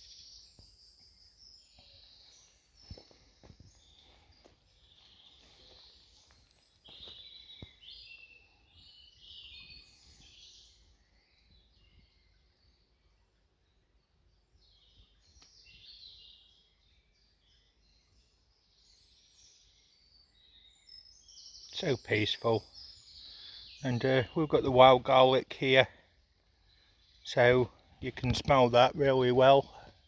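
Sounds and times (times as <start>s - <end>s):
songbirds chirping and warbling: 0.0s - 30.0s.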